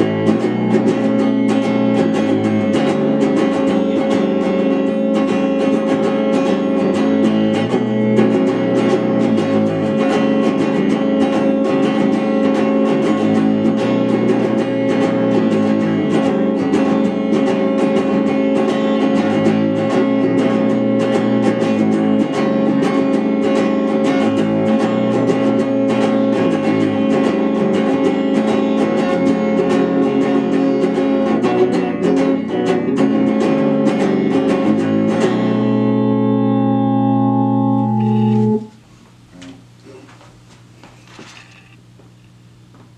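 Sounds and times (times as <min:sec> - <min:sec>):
electric guitar rapid picking: 0:00.0 - 0:38.7.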